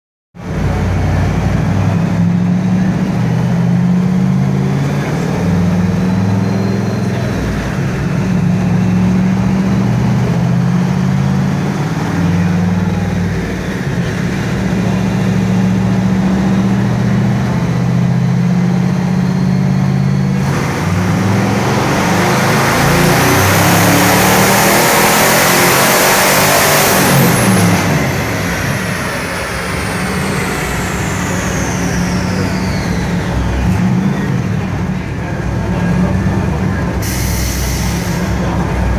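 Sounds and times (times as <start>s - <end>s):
car engine revving on a dyno: 0.4s - 38.9s.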